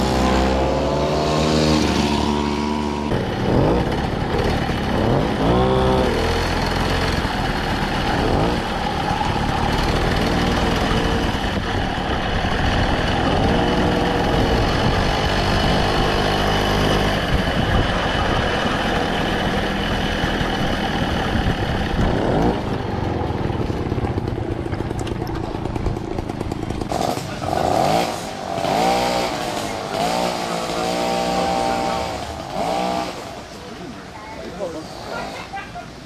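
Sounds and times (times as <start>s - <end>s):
moped engines revving: 0.0s - 36.0s
steady rushing noise: 0.0s - 36.0s.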